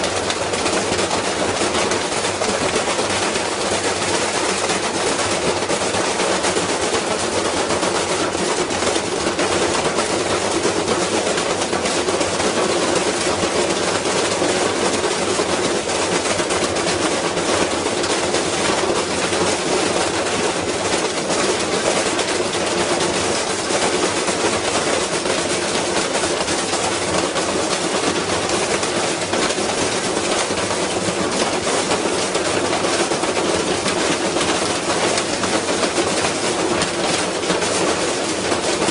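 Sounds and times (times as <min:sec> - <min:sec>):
washing machine banging and rattling: 0:00.0 - 0:38.9.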